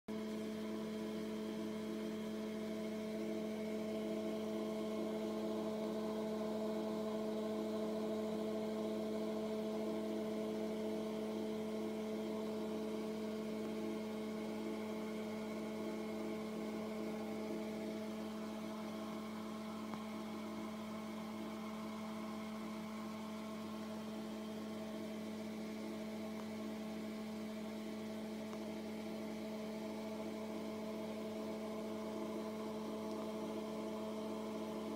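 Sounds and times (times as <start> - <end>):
steady machine hum: 0.1 - 34.9.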